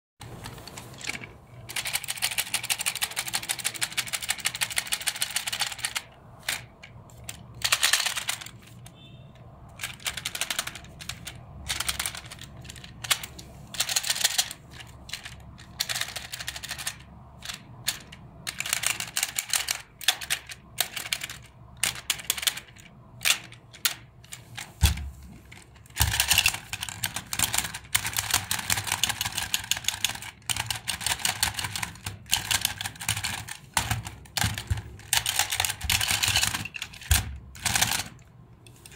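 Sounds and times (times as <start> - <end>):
plastic toys rattling and clicking: 0.2 - 38.9.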